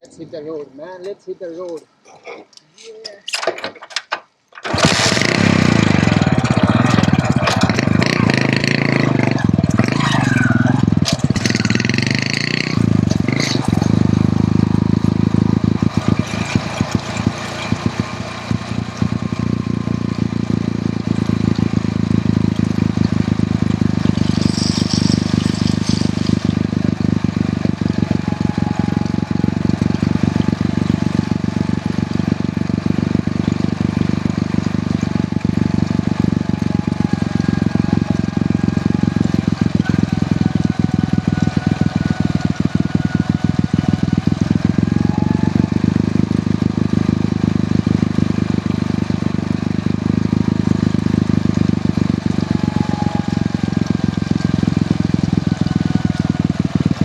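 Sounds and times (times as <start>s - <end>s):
motorcycle engine running: 4.6s - 57.0s.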